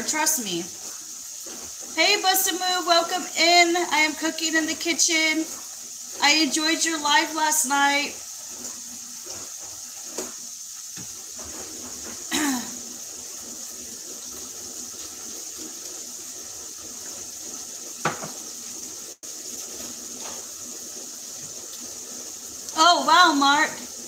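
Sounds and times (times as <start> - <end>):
beef sizzling in a pan: 0.0 - 24.0.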